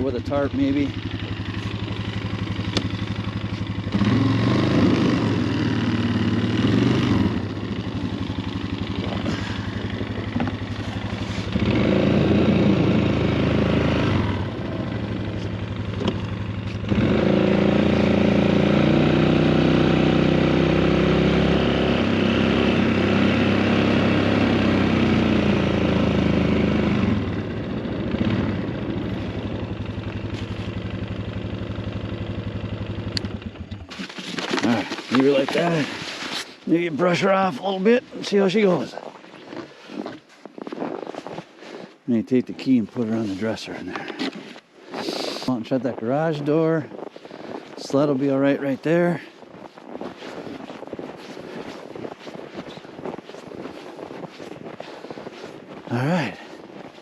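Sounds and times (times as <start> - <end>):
atv engine idling and revving: 0.0 - 57.0.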